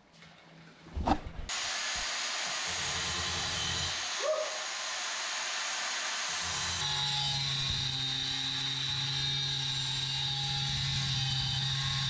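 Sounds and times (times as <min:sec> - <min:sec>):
angle grinder cutting steel: 0:01.5 - 0:12.0
angle grinder whirring: 0:01.5 - 0:12.0.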